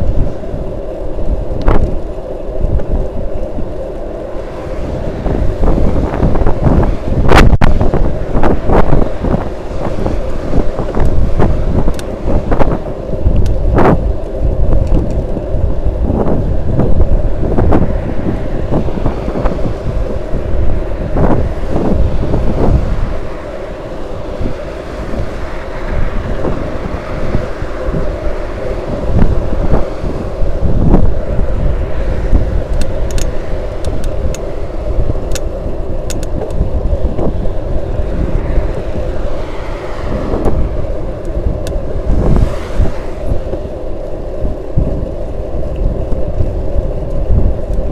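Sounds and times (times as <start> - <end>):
steady hum: 0.0 - 47.9
wind buffeting microphone: 0.0 - 47.9.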